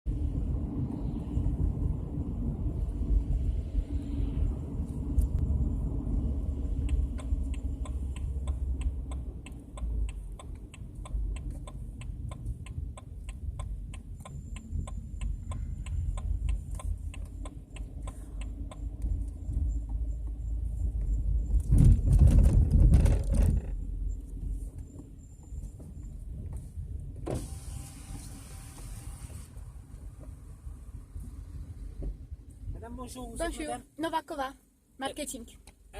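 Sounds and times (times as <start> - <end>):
car rumble while moving: 0.0 - 35.9.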